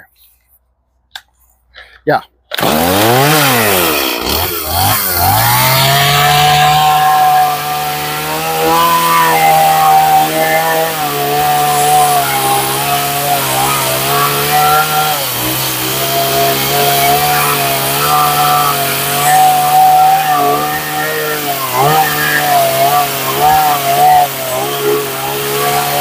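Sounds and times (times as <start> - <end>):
chainsaw cutting wood: 2.5 - 26.0.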